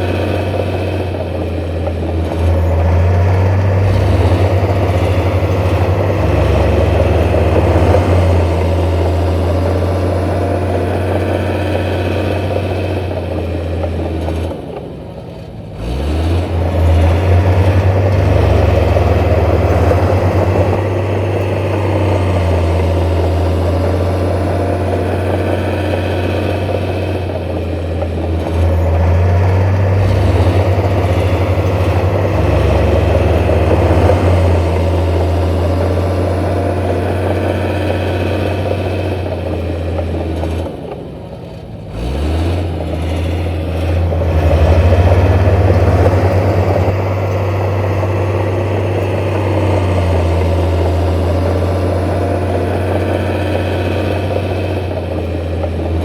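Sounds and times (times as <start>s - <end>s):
diesel machinery engine hum: 0.0s - 56.0s.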